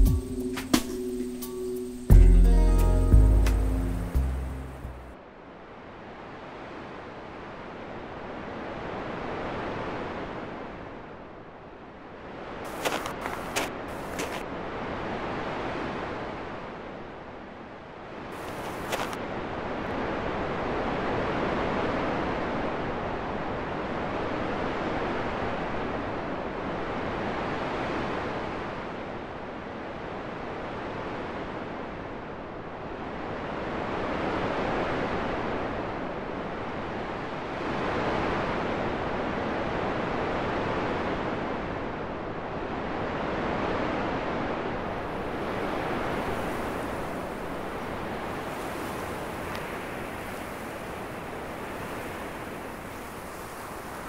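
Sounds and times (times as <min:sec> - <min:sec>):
wind blowing in gusts: 0:00.0 - 0:54.0.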